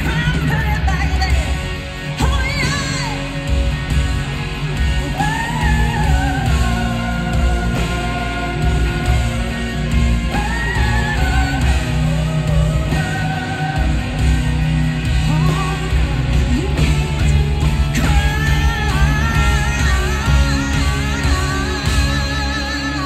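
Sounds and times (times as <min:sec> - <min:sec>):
woman singing into a microphone: 0:00.0 - 0:03.4, 0:05.0 - 0:14.4, 0:15.1 - 0:23.0
live rock band: 0:00.0 - 0:23.0.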